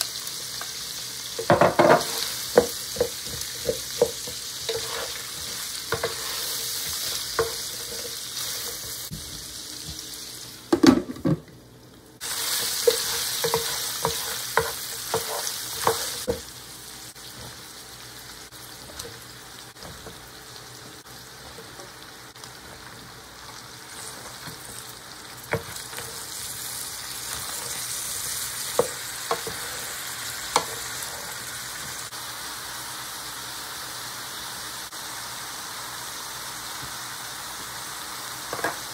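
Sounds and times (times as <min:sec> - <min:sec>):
meat and onions sizzling: 0:00.0 - 0:38.9.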